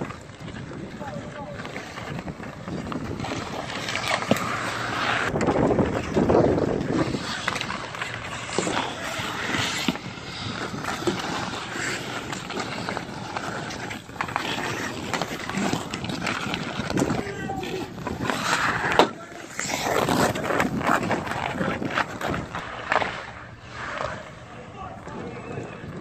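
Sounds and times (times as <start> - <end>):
hockey sticks clacking: 0.0 - 26.0
skate blades scraping on ice: 0.0 - 26.0.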